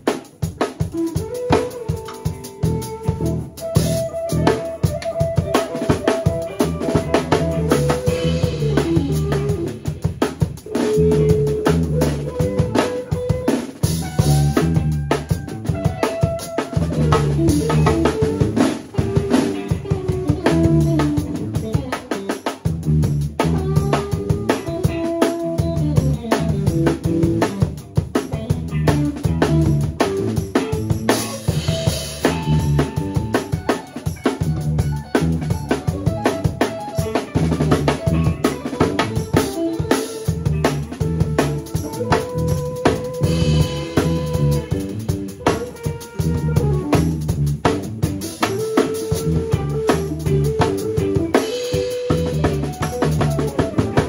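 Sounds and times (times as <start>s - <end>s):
drum kit groove: 0.0s - 54.0s
electric bass line: 0.0s - 54.0s
melodic lead lines: 1.1s - 21.9s, 29.4s - 54.0s.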